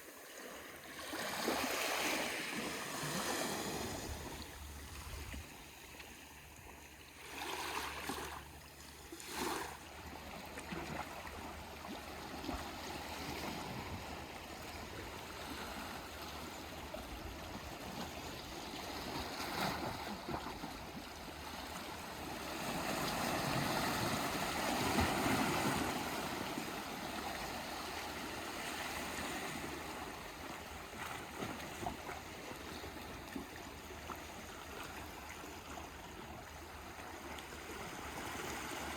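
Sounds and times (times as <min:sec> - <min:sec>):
waves washing and lapping: 0:00.0 - 0:38.9.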